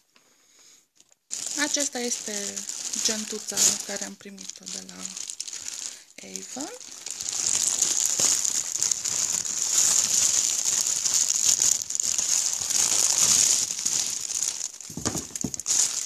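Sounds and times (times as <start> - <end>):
plastic wrapping crinkling: 1.0 - 16.0.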